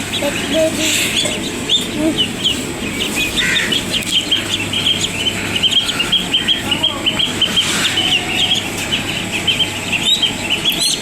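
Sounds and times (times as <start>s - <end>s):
birds chirping: 0.0s - 11.0s
chickens clucking: 0.0s - 11.0s.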